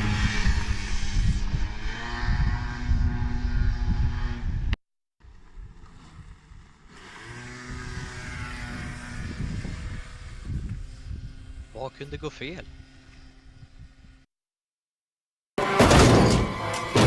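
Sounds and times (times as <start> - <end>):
moped engine running: 0.0 - 14.2.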